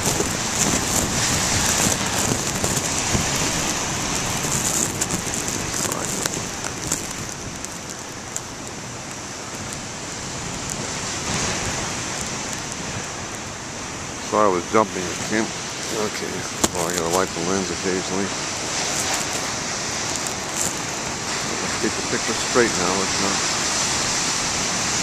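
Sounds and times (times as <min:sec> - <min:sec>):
heavy surf breaking: 0:00.0 - 0:25.0
rain pattering on plastic cover: 0:00.0 - 0:25.0.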